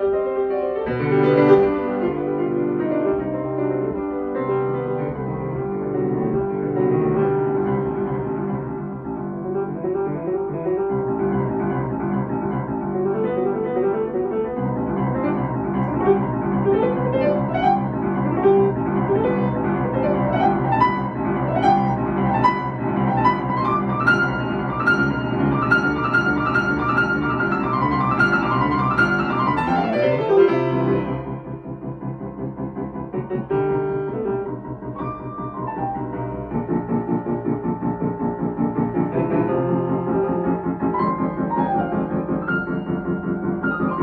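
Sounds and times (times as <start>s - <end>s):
solo piano classical music: 0.0s - 44.0s.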